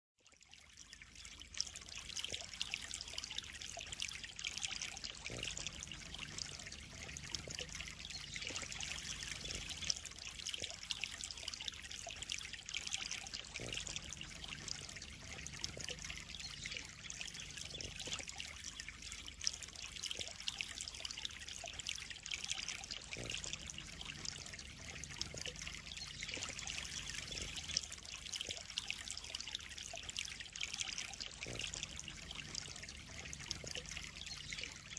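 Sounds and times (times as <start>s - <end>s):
water trickling into a pond: 0.2s - 34.9s.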